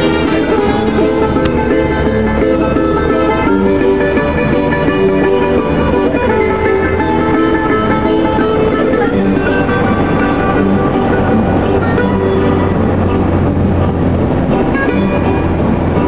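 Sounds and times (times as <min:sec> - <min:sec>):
plucked guitar music: 0:00.0 - 0:16.0.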